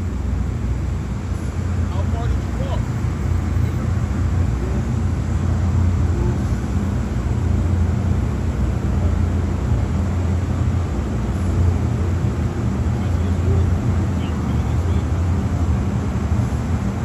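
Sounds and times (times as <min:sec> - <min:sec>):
car wash machinery drone: 0:00.0 - 0:17.0.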